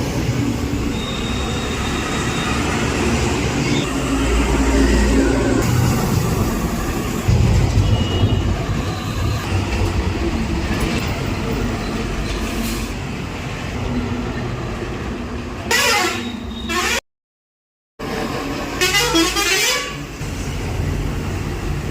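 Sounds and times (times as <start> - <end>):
road noise: 0.0 - 17.0, 18.0 - 21.9.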